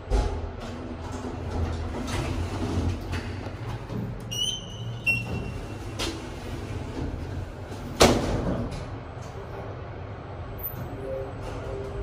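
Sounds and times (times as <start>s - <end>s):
lift doors sliding shut: 0.0s - 9.8s
low mechanical rumble: 0.0s - 12.0s.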